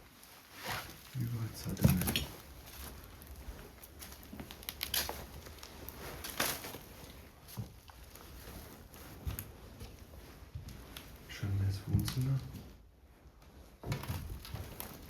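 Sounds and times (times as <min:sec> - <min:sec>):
footsteps crackling on paper: 0:00.0 - 0:15.0.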